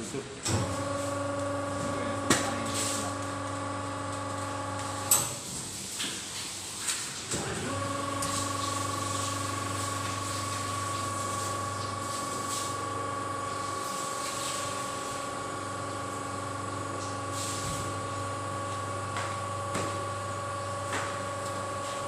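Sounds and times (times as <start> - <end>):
stirring motor humming: 0.6 - 5.2, 7.4 - 22.0.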